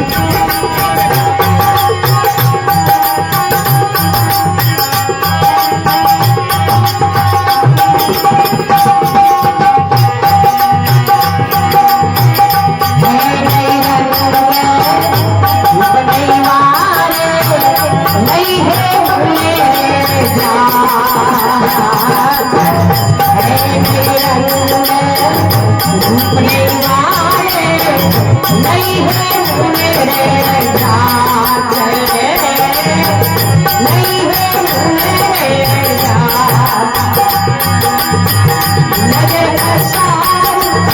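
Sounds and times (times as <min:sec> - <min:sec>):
hand drum beat: 0:00.0 - 0:40.9.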